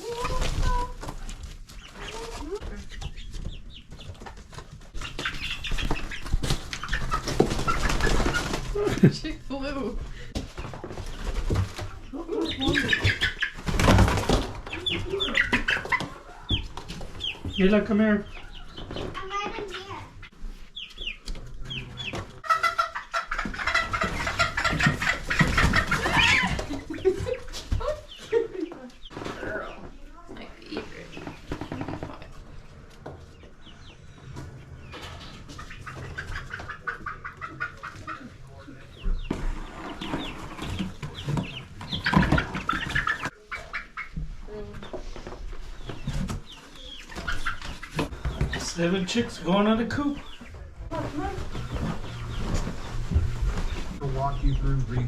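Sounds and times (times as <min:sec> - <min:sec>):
chickens squawking and clucking: 0:00.0 - 0:55.0
chicks peeping: 0:00.0 - 0:55.0.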